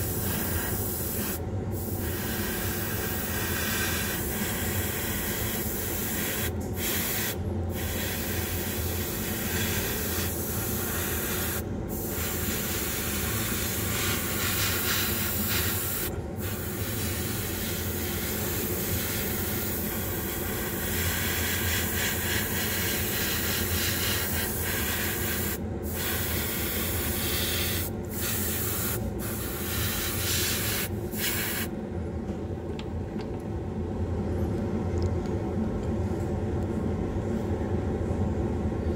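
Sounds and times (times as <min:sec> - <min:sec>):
airbrush spraying hiss: 0:00.0 - 0:31.7
exhaust fan hum: 0:00.0 - 0:38.9.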